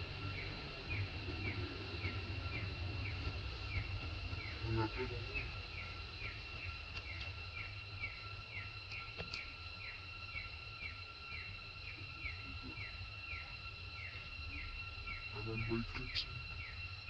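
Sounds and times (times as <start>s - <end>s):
falling insect chirp: 0.0s - 17.0s
insects buzzing drone: 0.0s - 17.0s
low background rumble: 0.0s - 17.0s.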